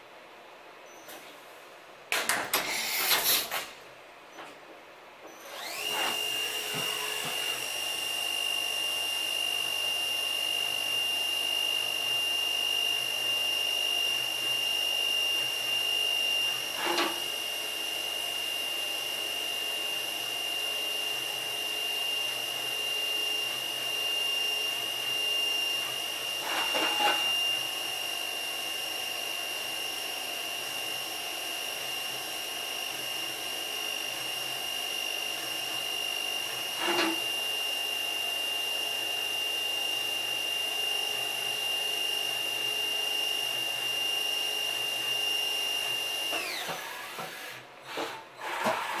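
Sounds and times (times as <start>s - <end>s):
machine high-pitched whine: 5.2s - 47.6s.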